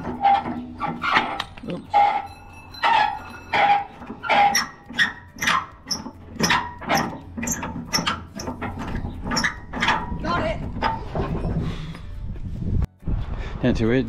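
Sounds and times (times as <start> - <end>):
metal pin squeaking: 0.0 - 12.1.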